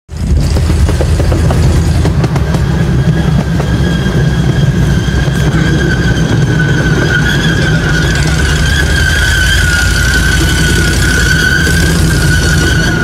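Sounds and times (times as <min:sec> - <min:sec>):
train wheels rumbling on track: 0:00.1 - 0:13.0
high wheel squeal: 0:01.0 - 0:13.0.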